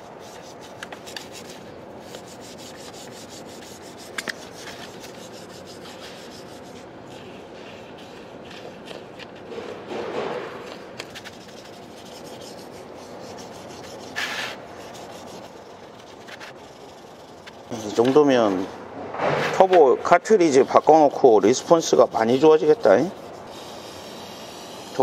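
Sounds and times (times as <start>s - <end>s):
brush scrubbing metal: 0.0s - 18.8s, 19.4s - 25.0s.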